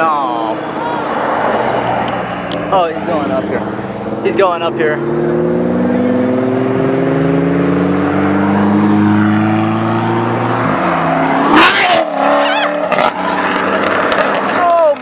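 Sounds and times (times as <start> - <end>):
loud car engine revving: 0.0 - 15.0.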